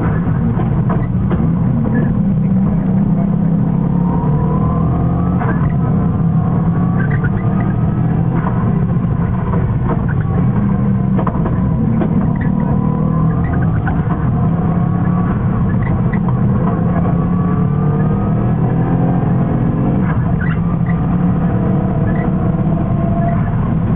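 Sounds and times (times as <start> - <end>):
car engine driven hard: 0.0 - 23.9.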